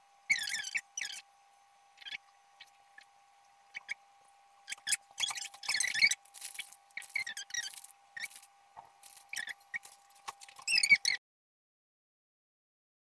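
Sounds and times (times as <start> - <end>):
faint steady hum: 0.0 - 11.2.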